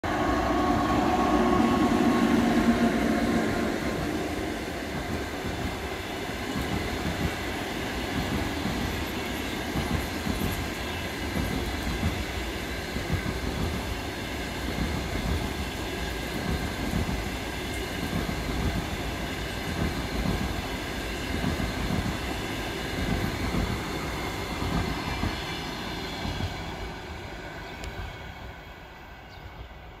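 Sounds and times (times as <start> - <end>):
electric locomotive humming: 0.0 - 30.0.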